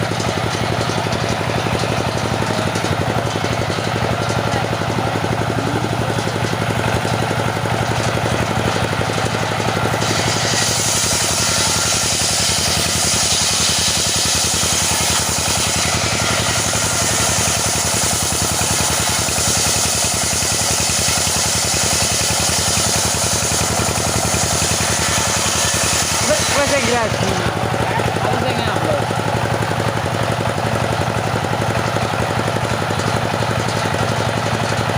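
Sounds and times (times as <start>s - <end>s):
saw engine running: 0.0s - 34.9s.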